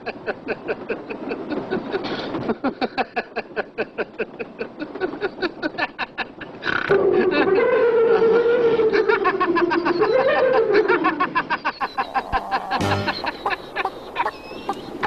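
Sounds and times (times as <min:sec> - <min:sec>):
person laughing hard: 0:00.0 - 0:15.0.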